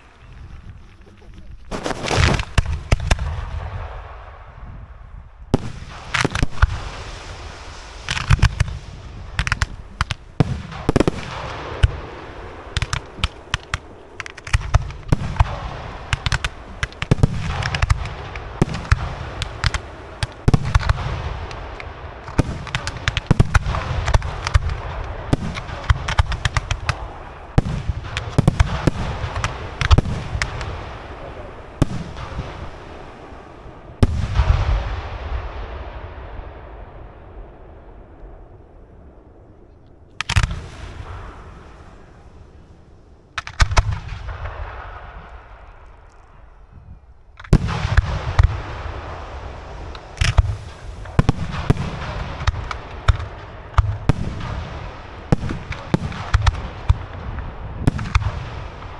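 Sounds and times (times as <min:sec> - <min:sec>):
fireworks crackling: 0:00.0 - 0:58.9
fireworks deep booms: 0:00.0 - 0:58.9.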